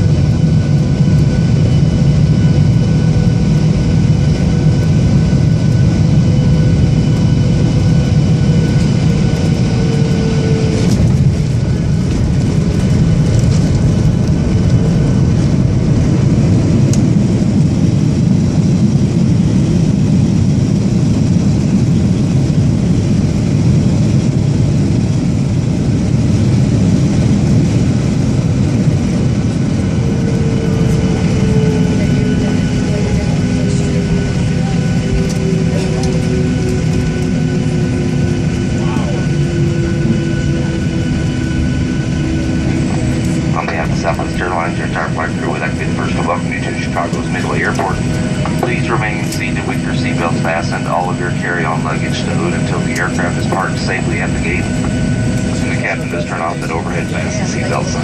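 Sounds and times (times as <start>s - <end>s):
airplane cabin engine rumble: 0.0s - 58.0s
whining engine tones: 0.0s - 58.0s.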